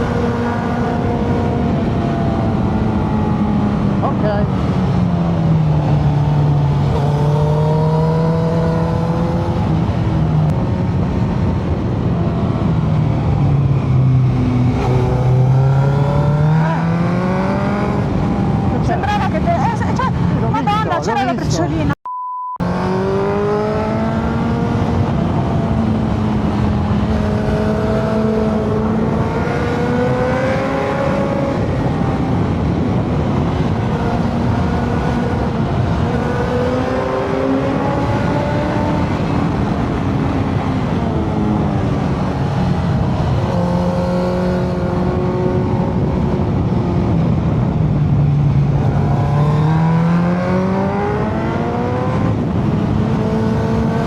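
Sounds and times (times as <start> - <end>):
motorcycle engine accelerating: 0.0 - 20.8, 22.6 - 54.0.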